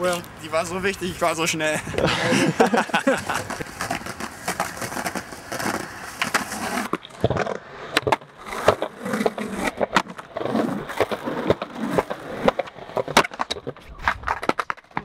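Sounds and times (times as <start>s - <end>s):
skateboard wheels on concrete: 0.0s - 15.0s
skateboard clacking and grinding: 2.6s - 15.0s.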